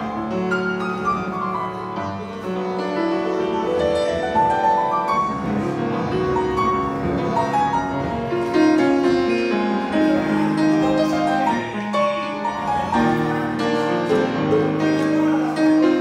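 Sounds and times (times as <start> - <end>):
grand piano playing: 0.0 - 16.0.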